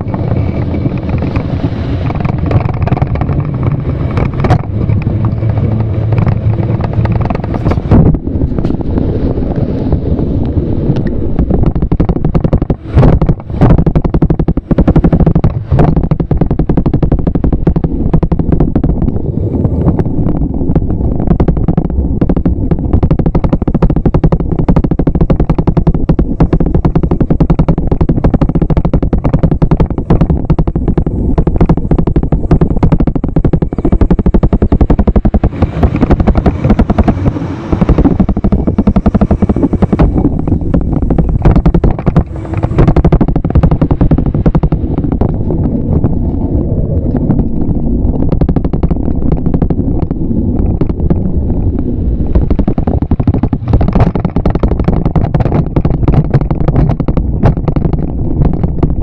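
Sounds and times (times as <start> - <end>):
bicycle rattling and knocking: 0.0 - 59.0.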